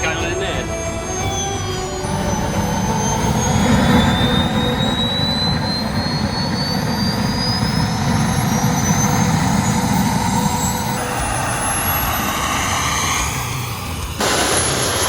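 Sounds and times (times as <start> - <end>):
model jet turbine roaring: 0.0 - 15.0.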